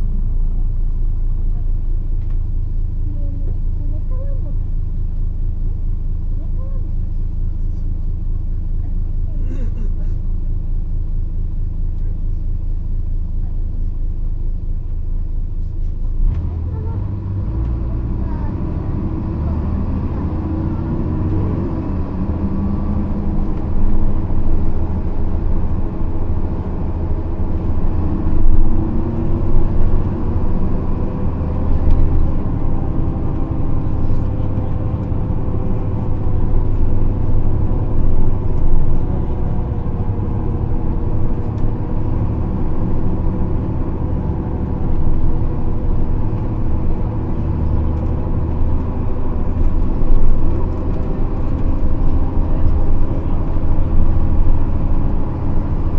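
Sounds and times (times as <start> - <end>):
diesel bus engine running: 0.0 - 55.9.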